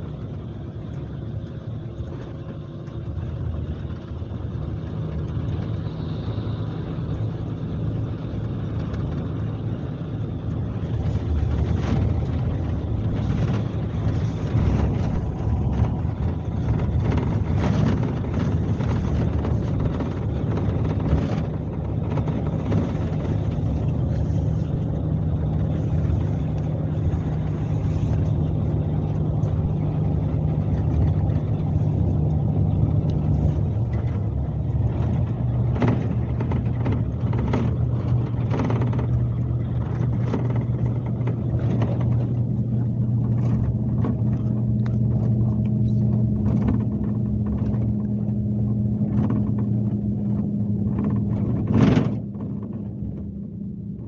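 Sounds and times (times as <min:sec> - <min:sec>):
diesel engine running: 0:00.0 - 0:54.0
road noise: 0:00.0 - 0:54.0
short knocks and rattles: 0:07.8 - 0:53.4.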